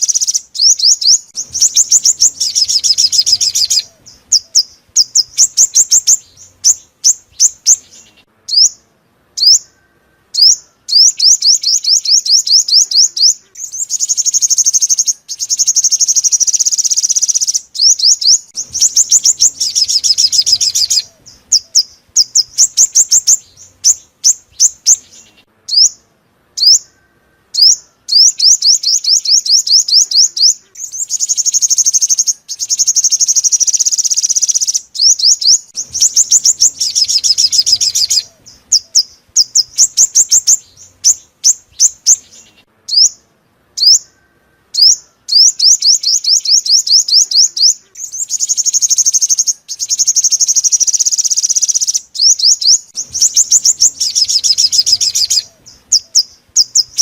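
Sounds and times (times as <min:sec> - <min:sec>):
buzzy chattering bird phrases: 0:00.0 - 0:08.8, 0:09.4 - 0:26.0, 0:26.6 - 0:43.2, 0:43.8 - 0:57.0
bird trilling song: 0:00.0 - 0:57.0.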